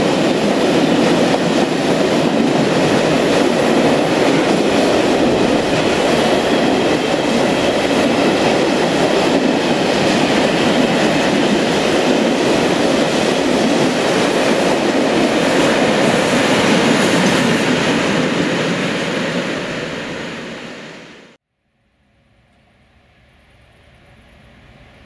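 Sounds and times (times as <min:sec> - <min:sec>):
train wheels on rails: 0:00.0 - 0:21.4.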